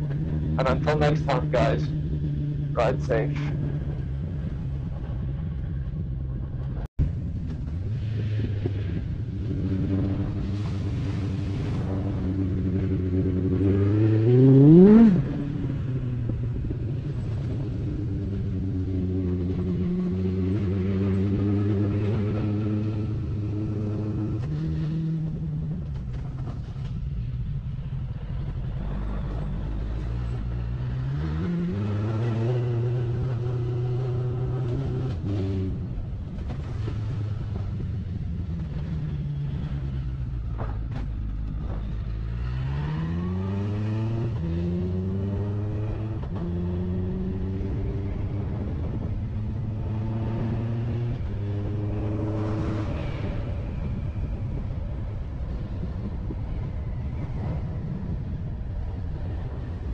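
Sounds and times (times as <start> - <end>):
motorcycle engine revving: 0.0 - 6.9, 7.8 - 27.2, 27.8 - 56.6.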